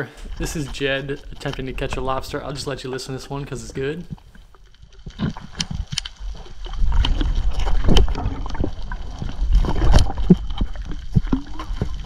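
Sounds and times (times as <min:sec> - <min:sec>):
rumbling water and sand: 0:00.1 - 0:12.0
sharp clicks and knocks underwater: 0:00.2 - 0:12.0.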